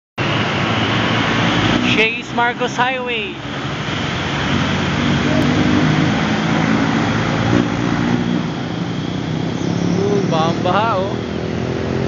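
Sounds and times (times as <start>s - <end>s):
vehicle engines running: 0.2s - 12.0s.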